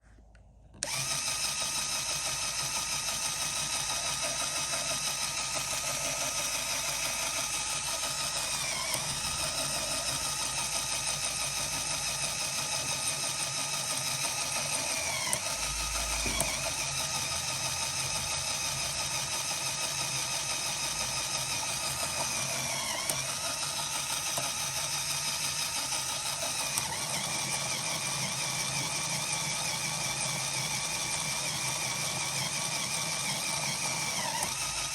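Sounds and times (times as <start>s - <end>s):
electric motor whining with gear noise: 0.8s - 34.9s.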